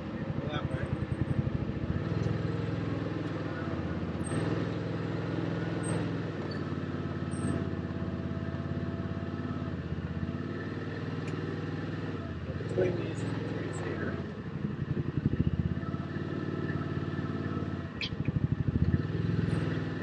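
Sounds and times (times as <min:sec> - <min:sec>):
utility vehicle engine running: 0:00.0 - 0:20.0.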